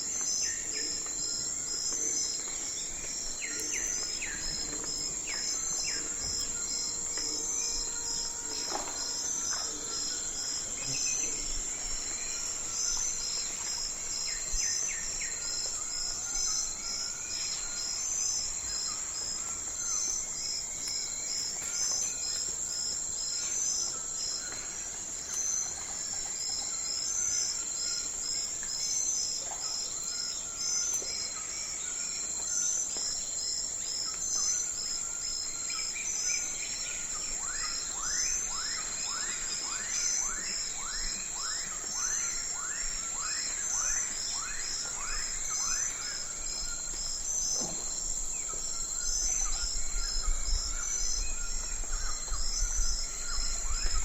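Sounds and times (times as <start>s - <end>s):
crickets trilling: 0.0s - 54.0s
pulsing insect chirp: 0.0s - 54.0s.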